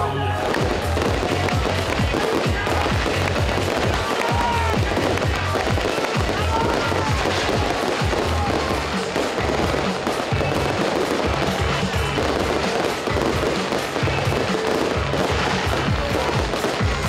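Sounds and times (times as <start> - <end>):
fireworks crackling and banging: 0.3 - 17.0.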